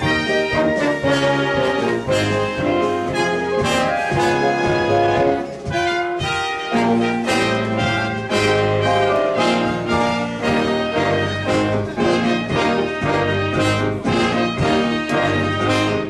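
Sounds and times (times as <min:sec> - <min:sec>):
orchestra brass section playing: 0:00.0 - 0:16.0.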